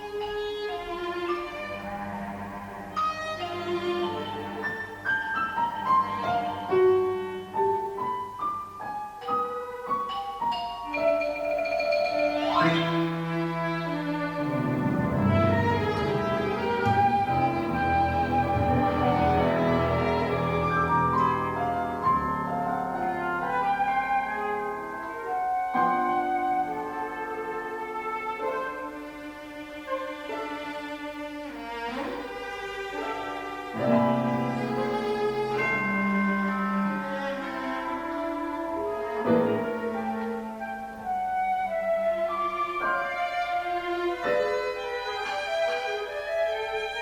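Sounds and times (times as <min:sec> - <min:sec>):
piano melody: 0:00.0 - 0:47.0.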